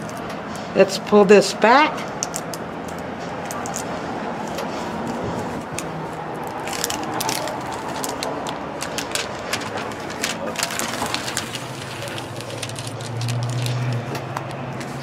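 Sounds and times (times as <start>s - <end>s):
plastic film crackling as peeled: 2.2s - 15.0s.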